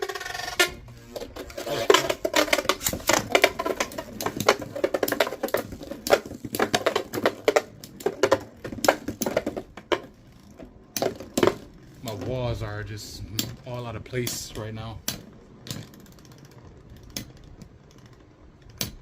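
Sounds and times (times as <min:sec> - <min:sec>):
rapid clacking of metal and plastic: 0:00.0 - 0:19.0.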